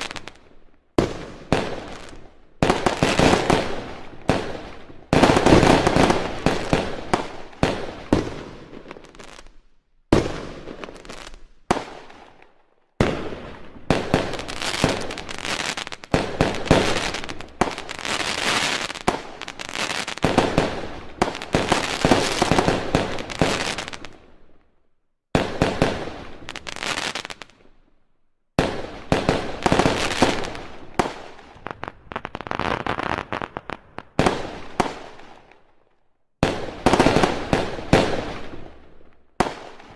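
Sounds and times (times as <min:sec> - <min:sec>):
fireworks bangs and crackling: 0:00.0 - 0:24.6, 0:25.3 - 0:27.8, 0:28.6 - 0:35.7, 0:36.4 - 0:39.9.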